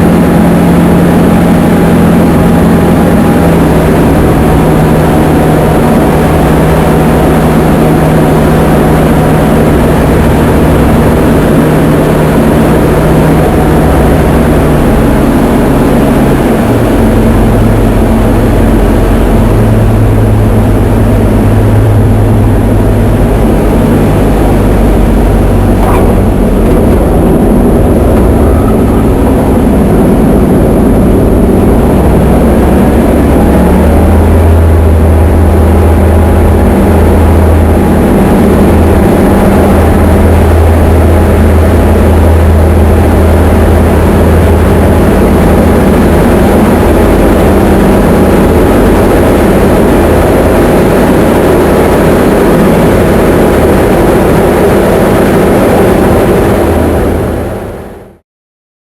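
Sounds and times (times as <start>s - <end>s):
light aircraft engine droning: 0.0s - 58.2s.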